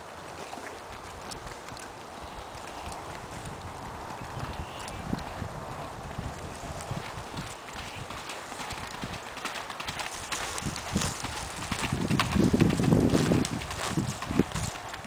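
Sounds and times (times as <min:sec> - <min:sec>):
horse hoofbeats cantering: 0:02.2 - 0:15.0.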